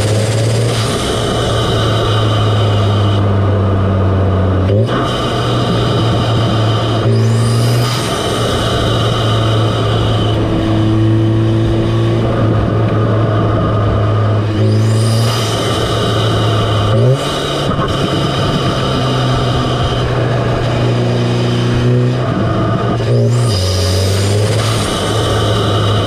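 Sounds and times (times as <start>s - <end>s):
car engine intake: 0.0s - 26.0s.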